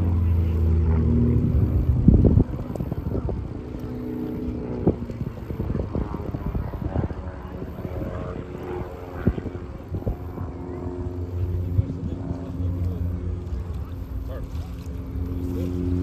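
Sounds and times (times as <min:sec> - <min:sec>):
propeller airplane engine droning: 0:00.0 - 0:16.0.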